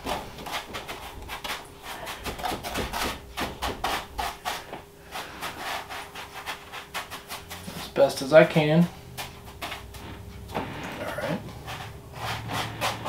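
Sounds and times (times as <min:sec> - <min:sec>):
gritty crunching and scraping: 0:00.0 - 0:13.0.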